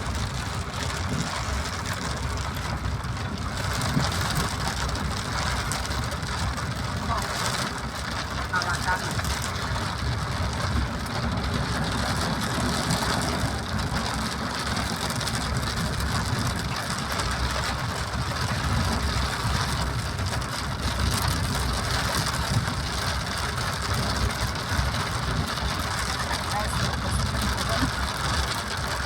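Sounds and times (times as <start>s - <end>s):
steady rain: 0.0s - 29.0s
vehicle running on road: 0.0s - 29.0s.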